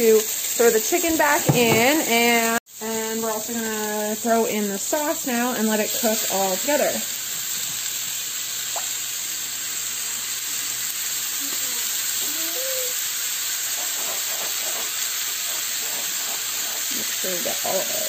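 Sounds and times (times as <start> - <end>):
food frying in oil: 0.0 - 18.0.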